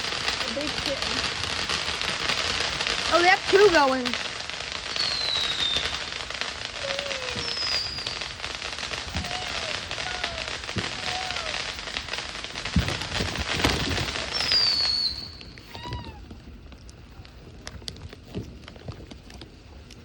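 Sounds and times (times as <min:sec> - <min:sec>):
heavy fireworks bangs: 0:00.0 - 0:19.2
fireworks falling whistles: 0:00.0 - 0:19.6
fireworks crackling: 0:00.0 - 0:20.0.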